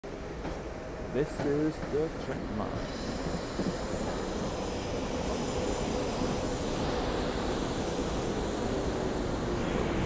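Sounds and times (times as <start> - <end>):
electric train rumbling: 0.1 - 10.0.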